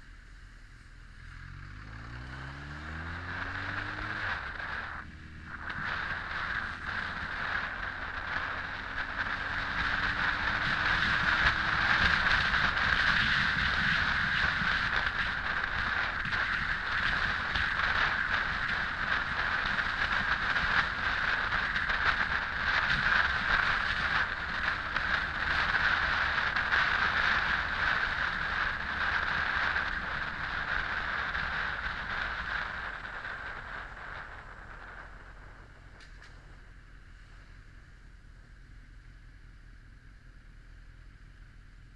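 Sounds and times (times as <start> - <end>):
motorcycle engine: 0.0 - 41.9
wind and riding noise: 0.0 - 41.9.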